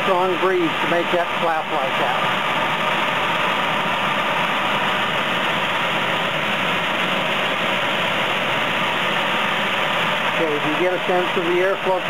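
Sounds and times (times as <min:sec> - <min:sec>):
blower fan air rushing: 0:00.0 - 0:12.0.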